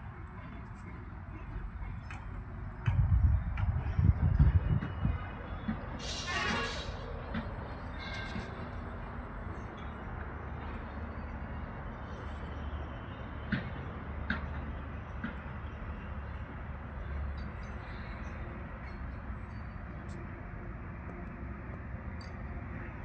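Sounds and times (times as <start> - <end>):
construction site low rumble: 0.0 - 23.0.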